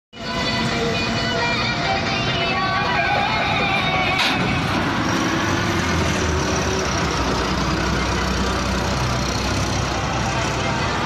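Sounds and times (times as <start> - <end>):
combine harvester engine humming: 0.2 - 11.0.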